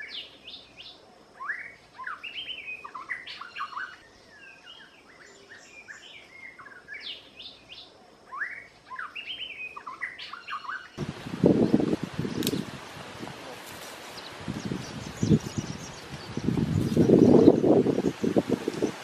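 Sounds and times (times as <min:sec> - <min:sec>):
small birds chirping: 0:00.0 - 0:12.8, 0:13.5 - 0:19.0.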